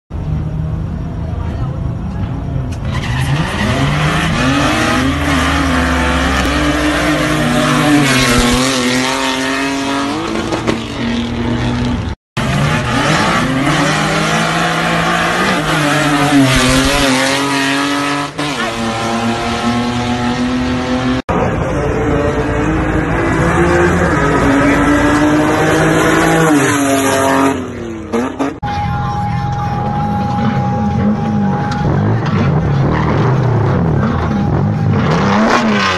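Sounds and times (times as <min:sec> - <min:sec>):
race car engines revving: 0:00.1 - 0:35.9.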